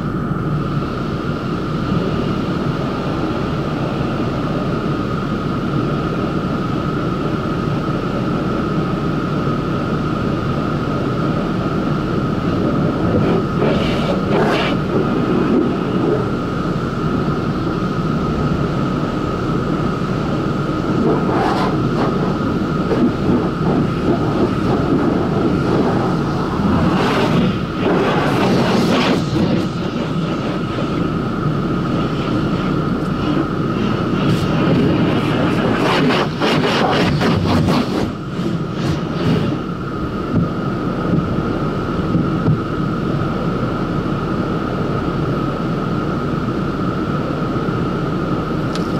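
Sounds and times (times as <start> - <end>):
car wash machinery droning: 0.0 - 48.9.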